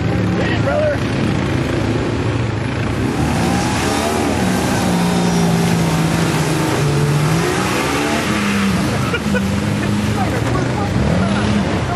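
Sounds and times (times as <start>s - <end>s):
truck engine revving in mud: 0.0s - 11.9s.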